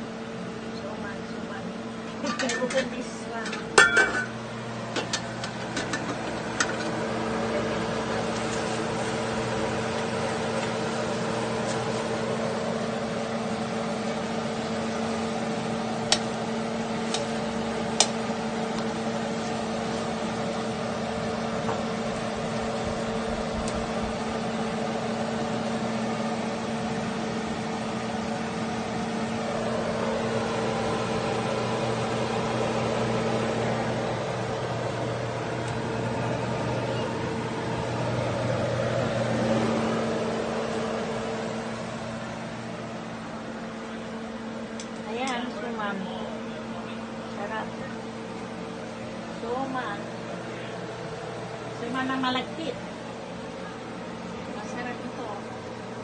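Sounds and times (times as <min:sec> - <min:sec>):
appliance motor humming: 0:00.0 - 0:56.0.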